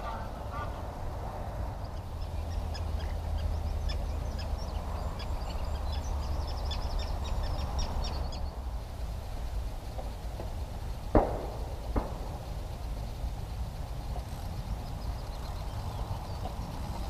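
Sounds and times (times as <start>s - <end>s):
wind buffeting microphone: 0.0s - 17.0s
small bird chattering song: 1.8s - 8.6s, 9.8s - 17.0s.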